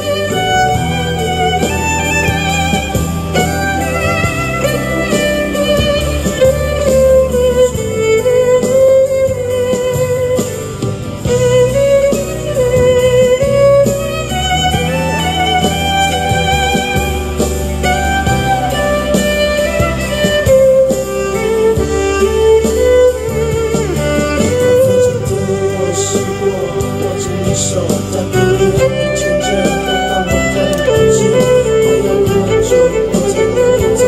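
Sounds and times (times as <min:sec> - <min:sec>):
backing track with bass line: 0:00.0 - 0:34.0
solo violin melody: 0:00.0 - 0:34.0.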